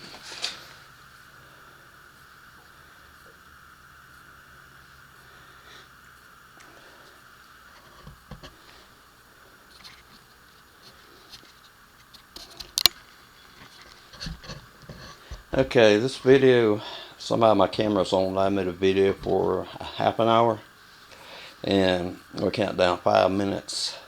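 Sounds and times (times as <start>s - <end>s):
steady high hum: 0.0s - 24.0s.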